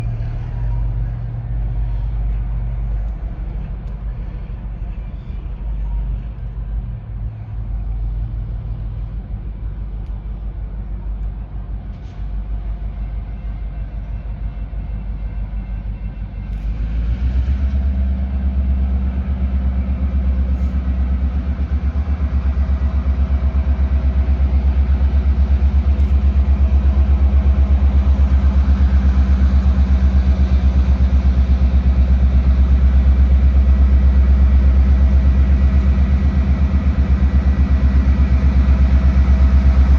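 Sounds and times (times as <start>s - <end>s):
diesel locomotive engine rumbling: 0.0s - 39.9s.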